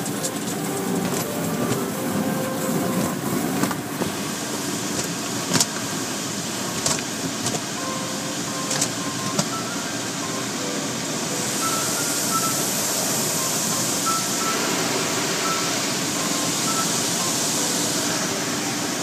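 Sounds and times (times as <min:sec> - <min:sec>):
car wash machinery and water: 0:00.0 - 0:19.0.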